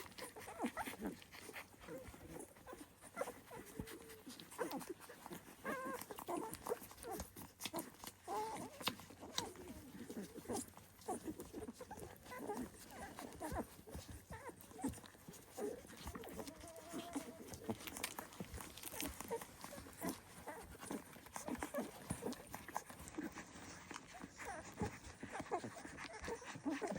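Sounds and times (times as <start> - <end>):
puppies squeaking and whimpering: 0.0 - 26.9.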